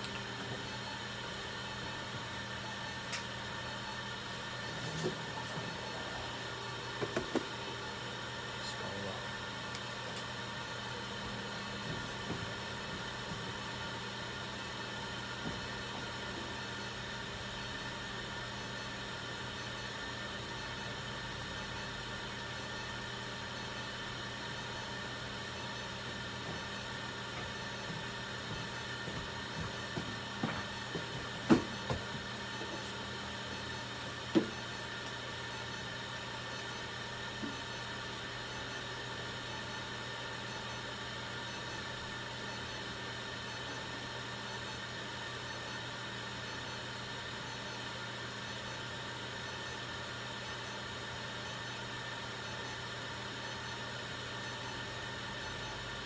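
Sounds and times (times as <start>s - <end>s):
electrical hum and hiss of equipment: 0.0s - 56.0s.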